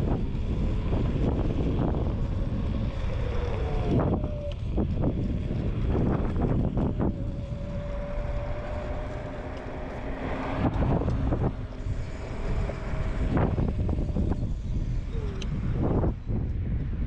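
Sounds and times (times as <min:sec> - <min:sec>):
high electric motor whine: 0:00.0 - 0:17.0
low tyre rumble: 0:00.0 - 0:17.0
wind buffeting microphone: 0:00.0 - 0:17.0.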